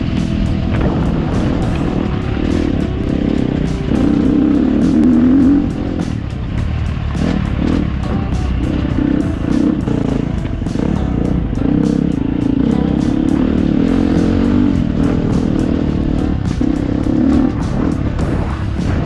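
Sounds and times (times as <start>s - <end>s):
background music with a beat: 0.0s - 19.0s
dirt bike engine running: 0.0s - 19.0s.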